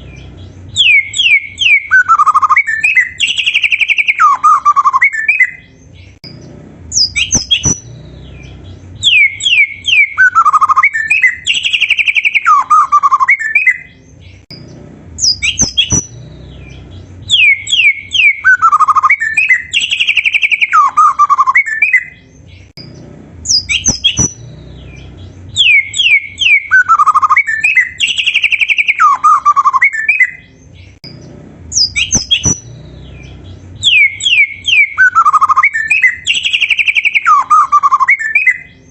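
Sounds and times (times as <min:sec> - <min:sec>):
bird singing whistled phrases and trills: 0:00.0 - 0:38.9.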